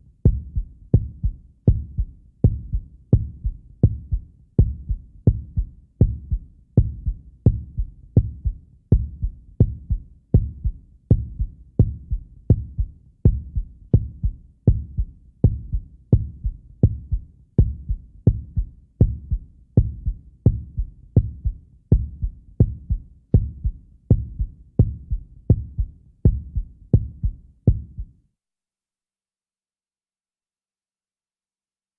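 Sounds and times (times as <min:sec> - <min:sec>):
heartbeat thumps: 0:00.3 - 0:28.1.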